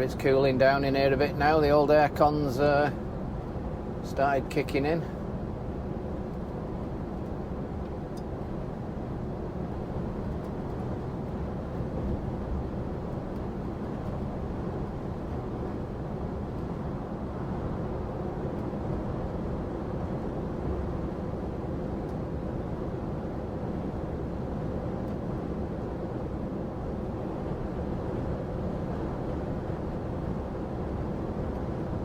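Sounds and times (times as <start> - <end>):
lorry engine and road noise: 0.0 - 32.0.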